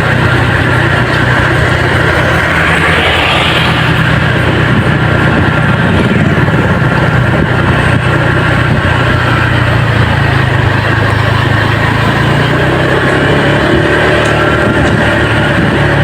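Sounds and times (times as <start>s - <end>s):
road and wind noise: 0.0s - 16.0s
vehicle engine running: 0.0s - 16.0s.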